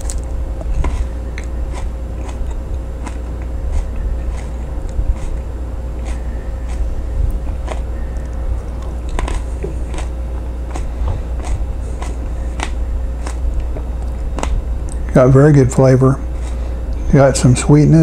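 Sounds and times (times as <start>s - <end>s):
person chewing crisp pepper: 0.0s - 15.1s
steady low hum: 0.0s - 18.0s.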